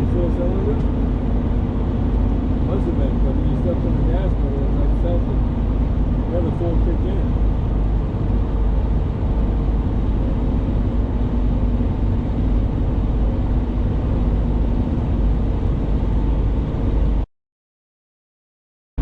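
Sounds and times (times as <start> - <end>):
road and engine rumble in cabin: 0.0 - 17.3.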